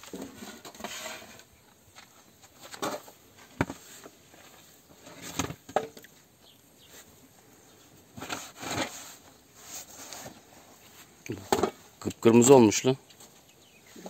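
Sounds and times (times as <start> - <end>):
rustling and scraping handling: 0.0 - 14.0.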